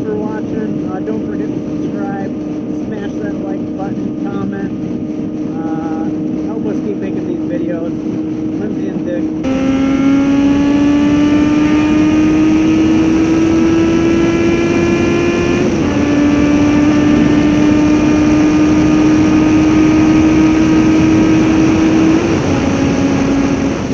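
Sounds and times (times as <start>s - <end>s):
rush of wind: 0.0s - 23.9s
vehicle engine running: 0.0s - 23.9s.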